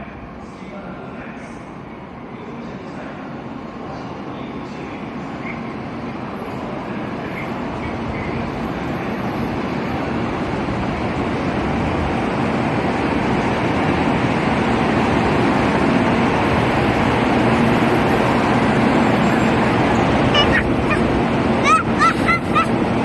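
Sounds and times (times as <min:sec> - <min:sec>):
high-speed train rushing rumble: 0:00.0 - 0:23.0.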